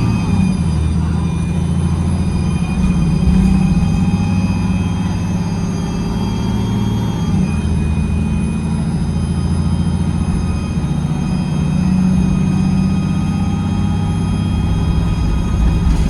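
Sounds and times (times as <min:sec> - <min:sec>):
bus engine droning: 0:00.0 - 0:16.0
whining drivetrain tones: 0:00.0 - 0:16.0.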